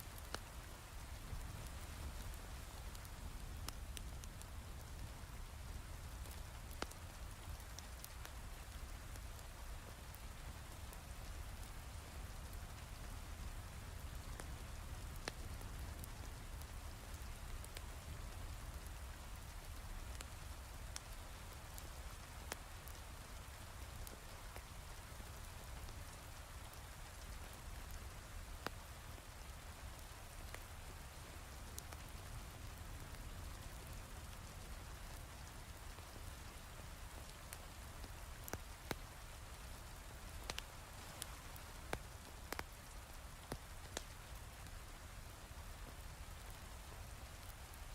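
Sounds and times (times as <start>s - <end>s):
log fire crackles: 0.0s - 47.9s.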